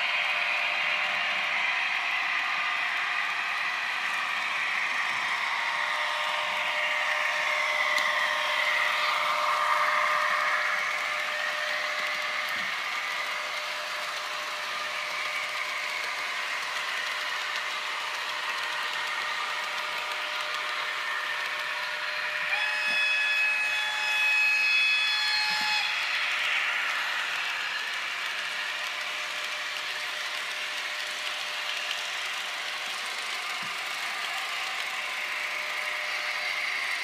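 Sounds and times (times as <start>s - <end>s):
model trains running: 0.0s - 37.0s.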